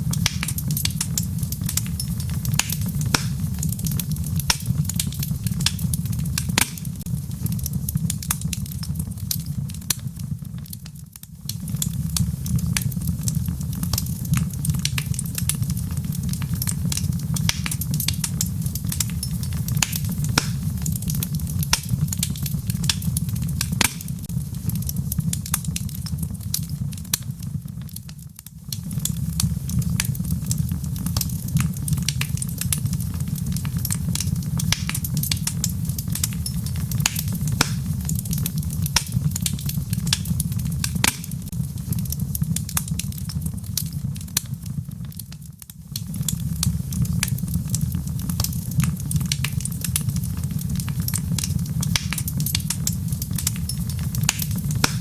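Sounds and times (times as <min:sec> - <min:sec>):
burning logs crackling and popping: 0:00.0 - 0:55.0
fire flames rumbling: 0:00.0 - 0:55.0.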